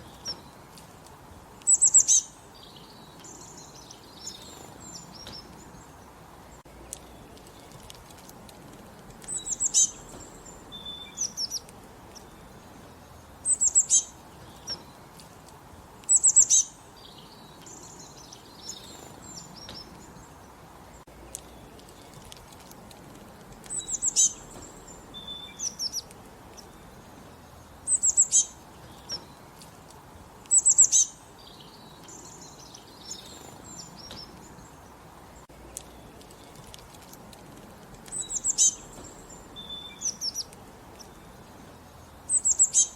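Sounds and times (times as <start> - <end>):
low background hiss: 0.0 - 42.9
songbirds singing: 0.0 - 42.9.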